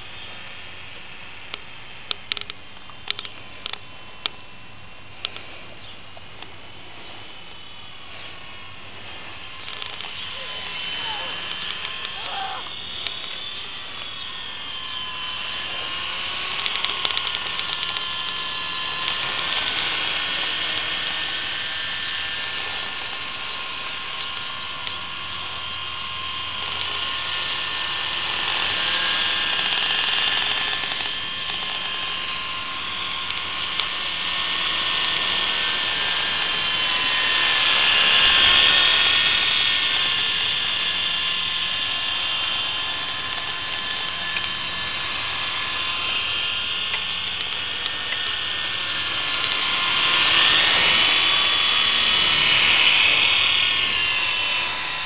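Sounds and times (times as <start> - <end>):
toy helicopter motor whine: 0.0 - 55.0.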